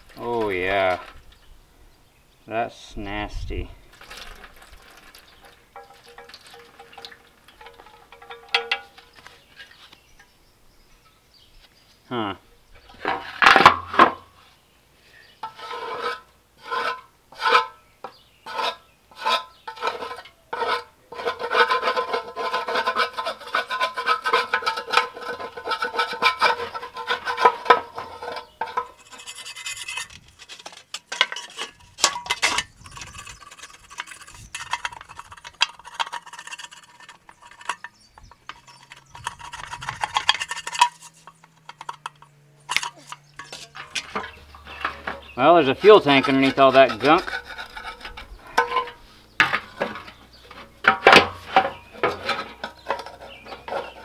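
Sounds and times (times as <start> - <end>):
scraping gunk off metal tank: 3.8 - 9.8, 12.8 - 14.4, 15.4 - 17.8, 18.4 - 54.0.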